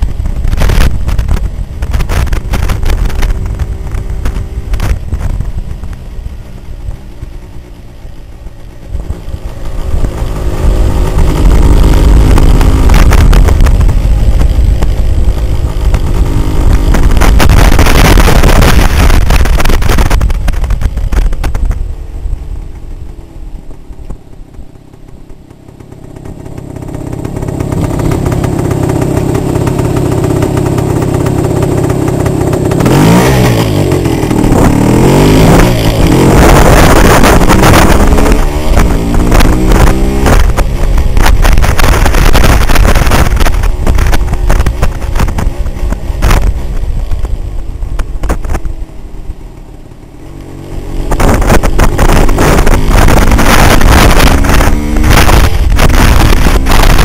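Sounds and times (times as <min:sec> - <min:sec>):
two-stroke motorcycle engine: 0:00.0 - 0:57.0.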